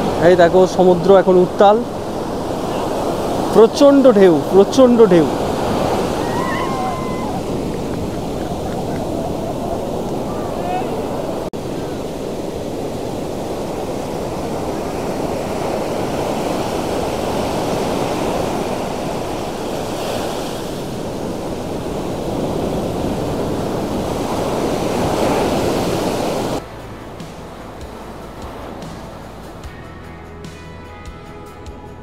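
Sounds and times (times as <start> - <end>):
waves breaking on a beach: 0.0 - 29.9.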